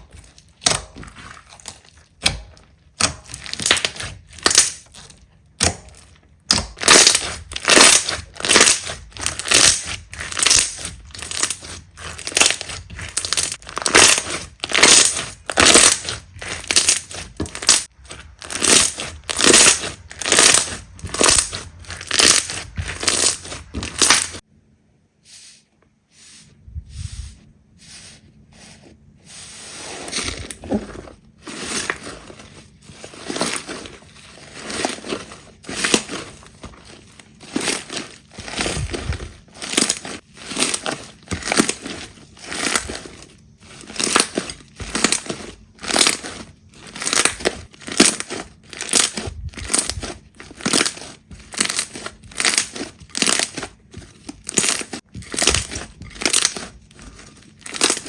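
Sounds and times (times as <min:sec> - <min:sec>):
slime squishing: 0:00.0 - 0:24.4, 0:26.2 - 0:58.0.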